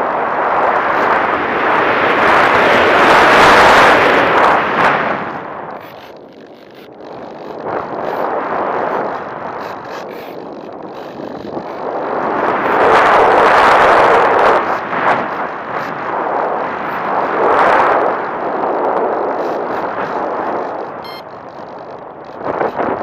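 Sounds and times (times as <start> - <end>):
airflow rushing over microphone: 0.0 - 21.4.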